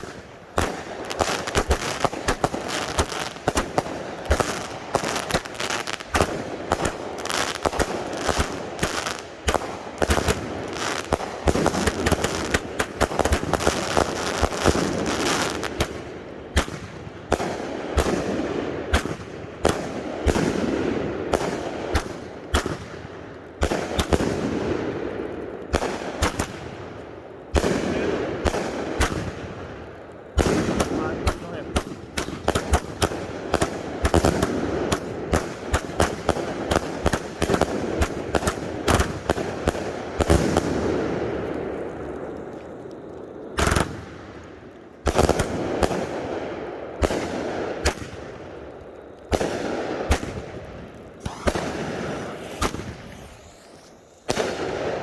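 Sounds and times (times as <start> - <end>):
fireworks crackling: 0.0 - 55.0
fireworks launching and bursting: 0.0 - 55.0.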